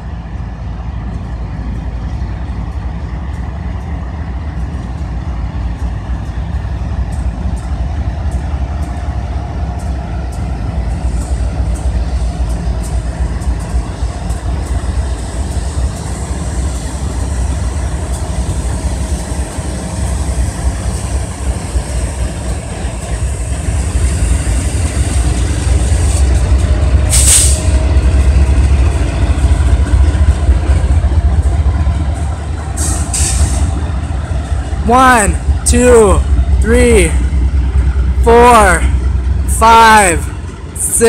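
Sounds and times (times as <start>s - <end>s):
diesel locomotives rumbling past: 0.0s - 41.0s.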